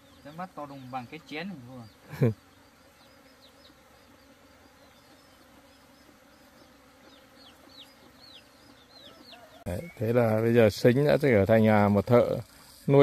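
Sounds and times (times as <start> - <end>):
bird chirping: 0.0 - 12.6
bees buzzing: 0.0 - 13.0.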